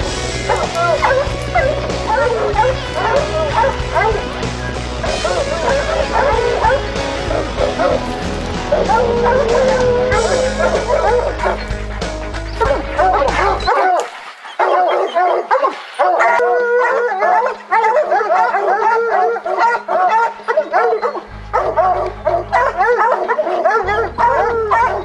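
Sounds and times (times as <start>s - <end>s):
dogs barking and bawling: 0.0s - 25.0s.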